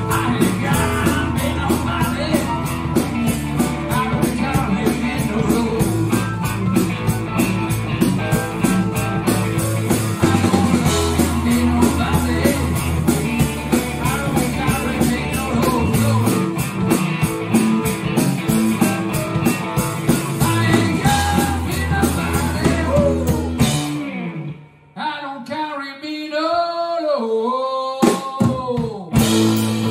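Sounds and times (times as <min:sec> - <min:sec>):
drum kit beat: 0:00.0 - 0:24.2, 0:28.0 - 0:29.9
bass guitar: 0:00.0 - 0:25.0, 0:28.4 - 0:29.9
electric guitar: 0:00.0 - 0:25.2, 0:28.0 - 0:29.9.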